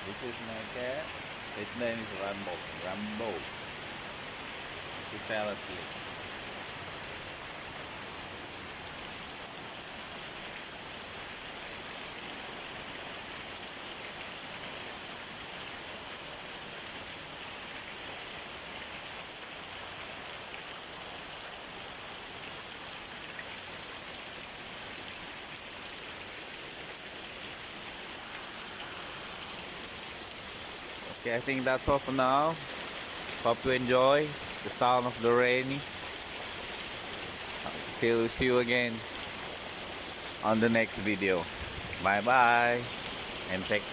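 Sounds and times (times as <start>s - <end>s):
heavy rain downpour: 0.0s - 43.9s.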